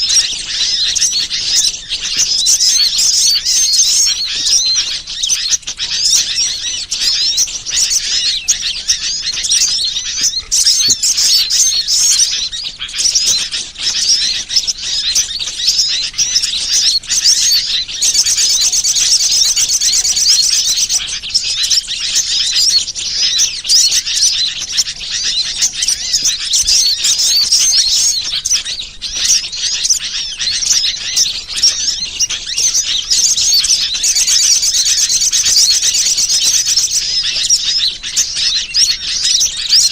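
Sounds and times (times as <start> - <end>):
fast even bird trill: 0.0 - 39.9
small birds chirping: 0.0 - 39.9.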